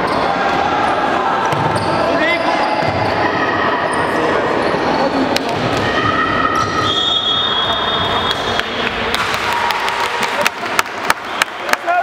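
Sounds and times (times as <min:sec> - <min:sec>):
din of players and onlookers: 0:00.0 - 0:12.0.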